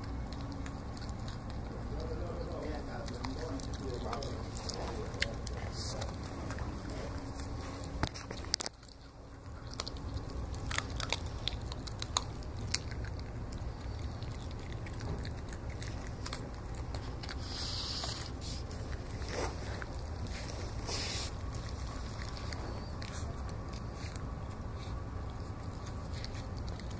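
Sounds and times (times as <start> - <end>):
puppy chewing meat crunching: 0.0 - 26.9
steady low hum: 0.0 - 26.9.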